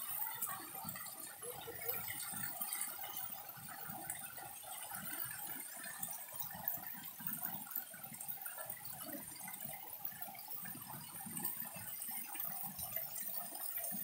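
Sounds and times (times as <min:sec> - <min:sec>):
water splashing from spouts: 0:00.0 - 0:14.0.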